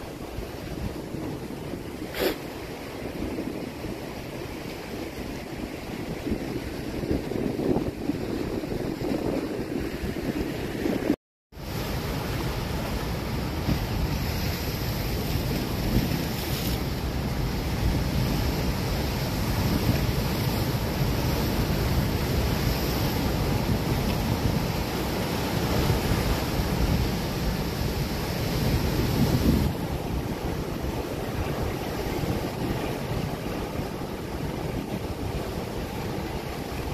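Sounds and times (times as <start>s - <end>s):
ocean surf breaking on rocks: 0.0s - 36.9s
wind buffeting microphone: 0.0s - 36.9s.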